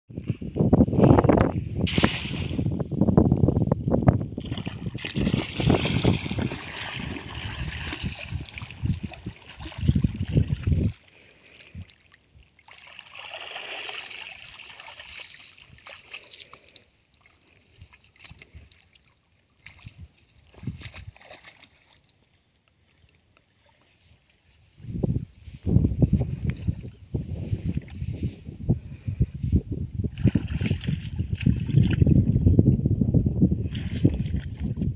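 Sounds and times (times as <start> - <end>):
water splashing and sloshing: 1.7 - 2.8, 4.1 - 28.4, 30.0 - 32.5, 33.6 - 34.9.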